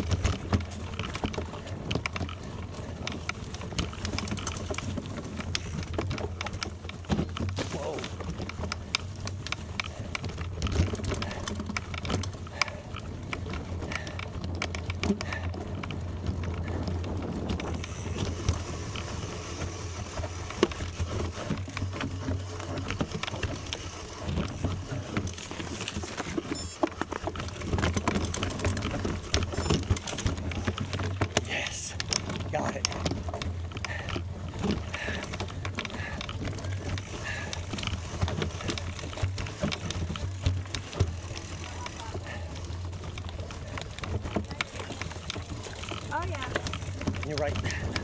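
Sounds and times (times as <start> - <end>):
bicycle tyres rolling on gravel: 0.0 - 48.0.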